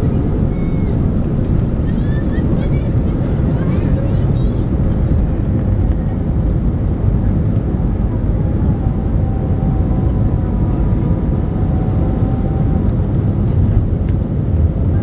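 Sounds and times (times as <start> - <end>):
airliner engines rumbling in cabin: 0.0 - 15.0
steady engine whine: 0.0 - 15.0.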